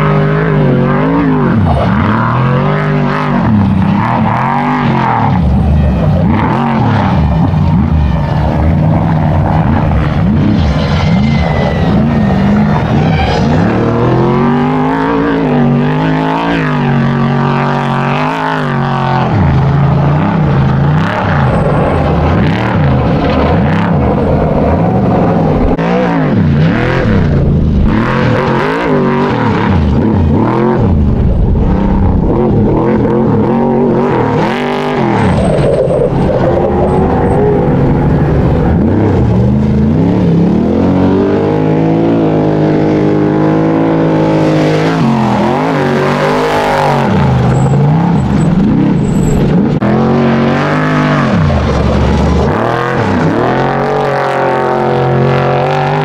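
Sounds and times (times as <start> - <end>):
race truck engines revving: 0.0 - 56.0.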